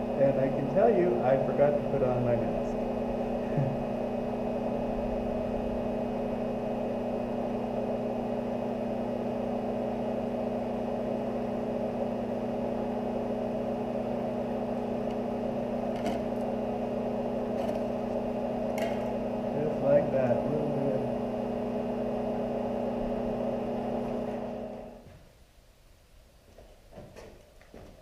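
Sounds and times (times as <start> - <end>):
transformer humming: 0.0 - 25.0.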